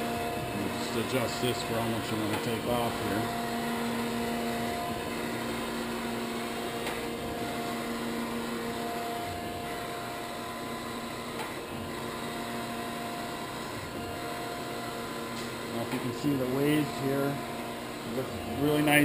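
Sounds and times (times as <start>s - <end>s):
grinder motor hum: 0.0s - 19.0s.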